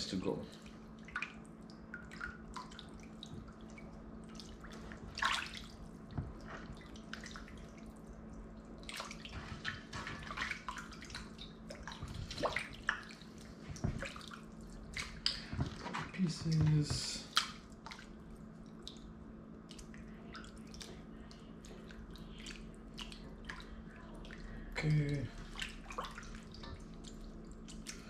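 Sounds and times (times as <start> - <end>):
water splashing and dripping: 0.3 - 28.0.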